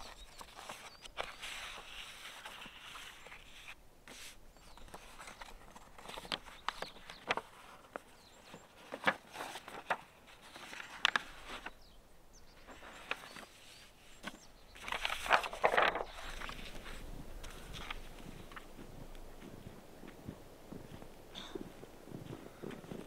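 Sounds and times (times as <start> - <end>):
paper rustling on stone: 0.0 - 11.8, 12.6 - 20.2.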